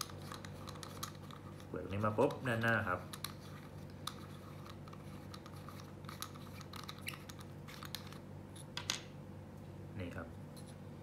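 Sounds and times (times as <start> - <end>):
small clicks and scrapes: 0.0 - 8.8.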